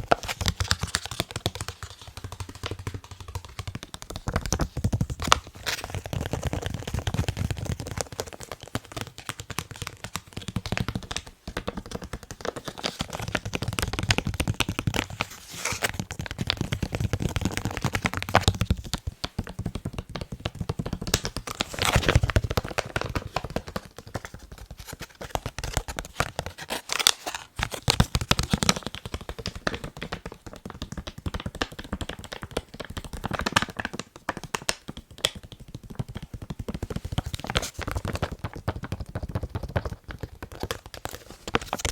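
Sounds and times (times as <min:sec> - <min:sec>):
fast tapping on face mask: 0:00.0 - 0:41.9.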